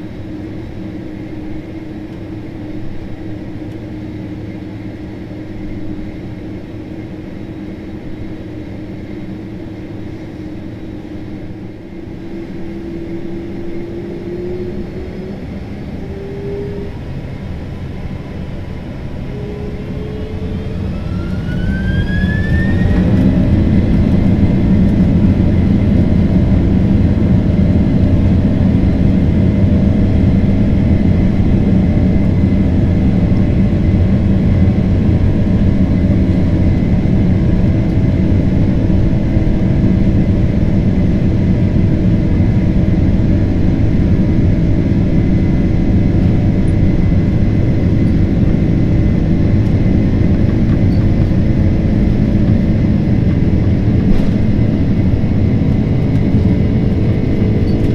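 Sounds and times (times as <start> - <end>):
jet engines at takeoff thrust: 0.0 - 57.9.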